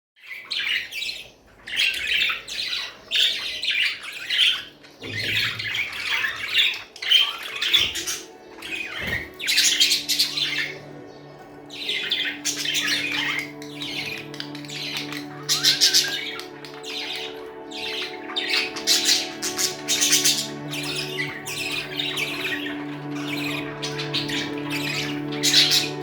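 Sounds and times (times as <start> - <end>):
budgerigars chattering: 0.2 - 26.0.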